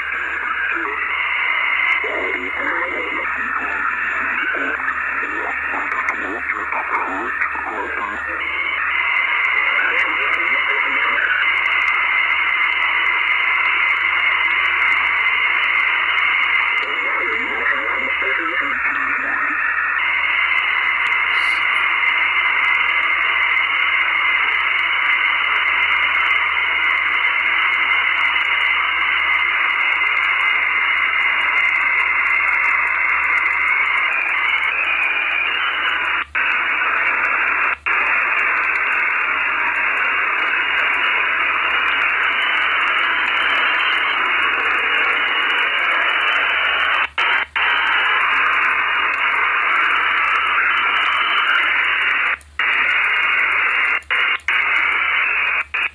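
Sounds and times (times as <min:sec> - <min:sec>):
radio static hiss: 0:00.0 - 0:55.9.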